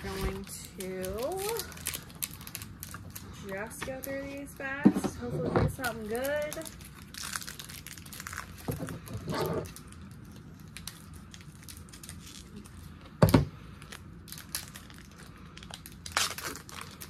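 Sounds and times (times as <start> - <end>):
foil wrapper crinkling: 0.0 - 4.8, 5.8 - 17.0.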